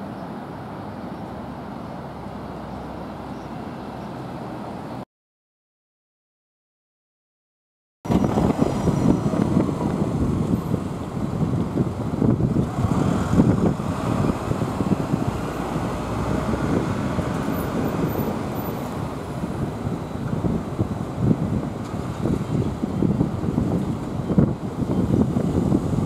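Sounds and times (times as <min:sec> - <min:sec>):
passing cars and trucks: 0:00.0 - 0:05.0, 0:08.1 - 0:26.0.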